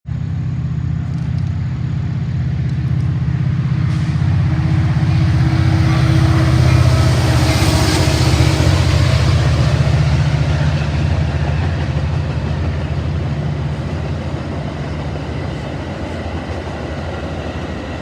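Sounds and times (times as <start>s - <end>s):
locomotive engine throbbing: 0.1s - 18.0s.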